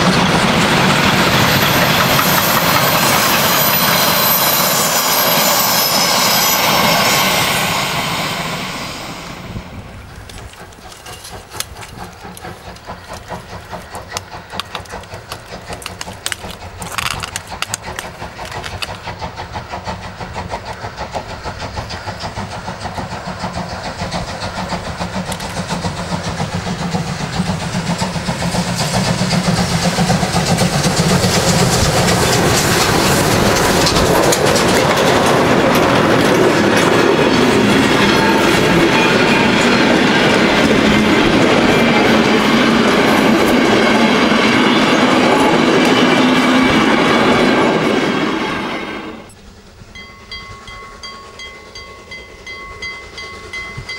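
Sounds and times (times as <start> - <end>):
steam locomotive exhaust beats: 0.0 - 53.9
train wheels clicking over rail joints: 0.0 - 53.9.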